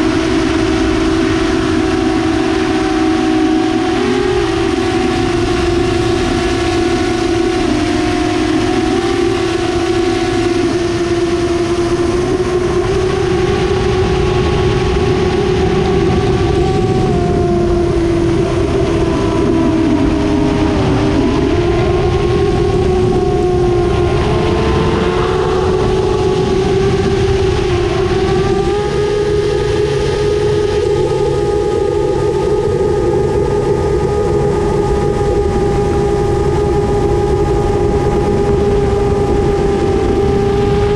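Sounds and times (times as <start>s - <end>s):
quadcopter motors buzzing whine: 0.0s - 40.9s.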